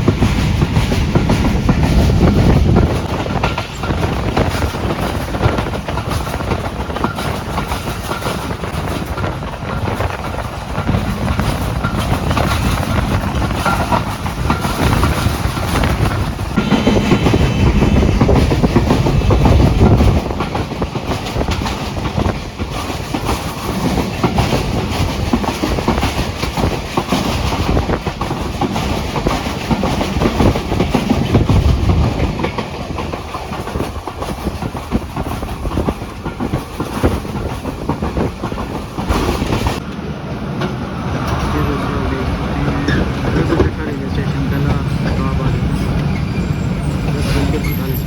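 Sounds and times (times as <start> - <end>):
rumble of train carriages: 0.0 - 48.0
train wheels clattering: 0.0 - 48.0.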